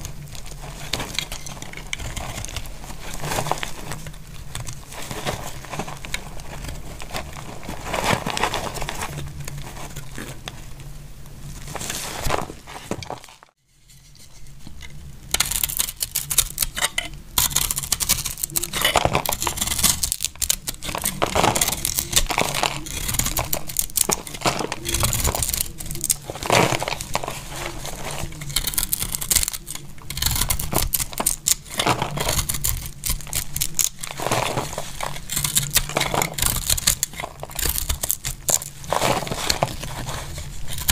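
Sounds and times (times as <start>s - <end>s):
knife shaving dry soap: 0.0s - 9.0s, 15.4s - 40.9s.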